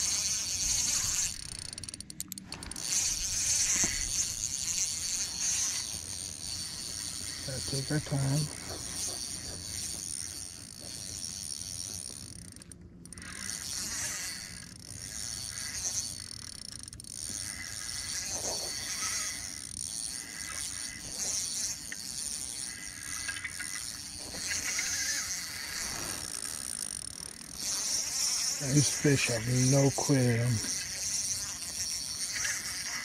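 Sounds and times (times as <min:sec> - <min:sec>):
fishing reel whirring: 0:00.0 - 0:33.0.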